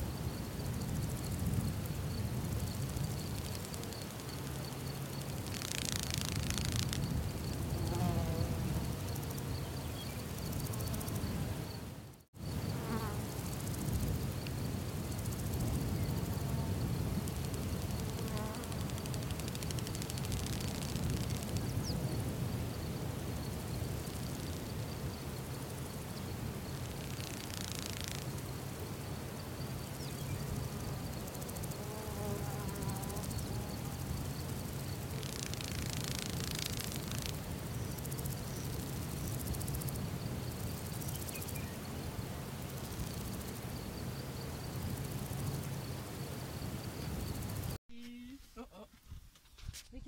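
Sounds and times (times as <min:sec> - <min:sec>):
insects buzzing and trilling: 0:00.0 - 0:47.8.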